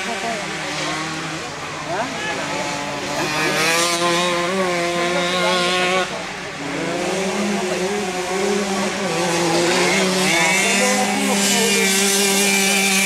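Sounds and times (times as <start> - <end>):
motocross bike engines running hard: 0.0 - 13.0.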